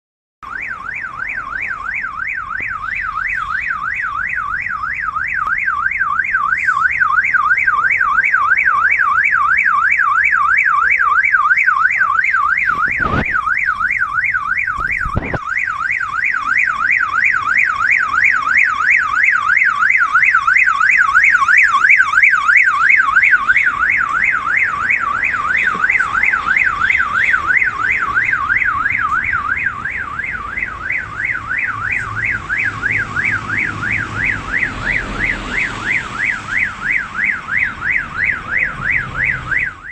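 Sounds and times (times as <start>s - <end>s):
car alarm siren warbling: 0.4s - 39.9s.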